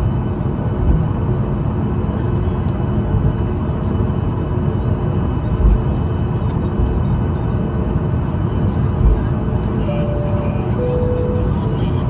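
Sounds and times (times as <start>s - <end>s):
jet engines at low thrust: 0.0s - 12.0s.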